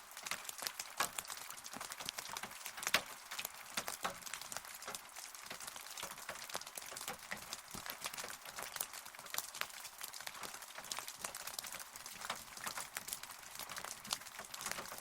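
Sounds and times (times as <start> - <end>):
raindrops ticking on hard surface: 0.0 - 15.0
steady rain hiss: 0.0 - 15.0.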